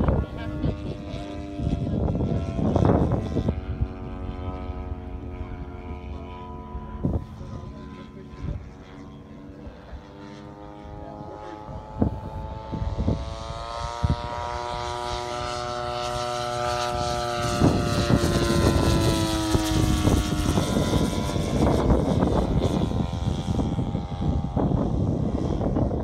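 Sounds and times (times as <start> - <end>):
propeller plane engine flying past: 0.0 - 26.0.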